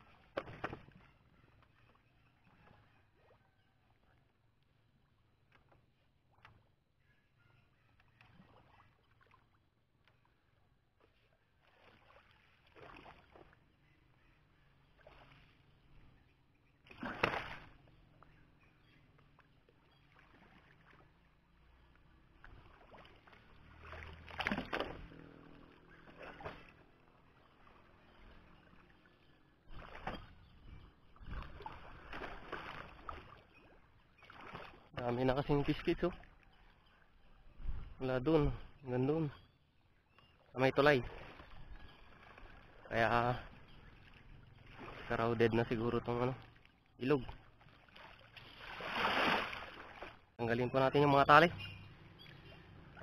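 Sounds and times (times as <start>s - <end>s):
water splashing and sloshing: 0.0s - 53.0s.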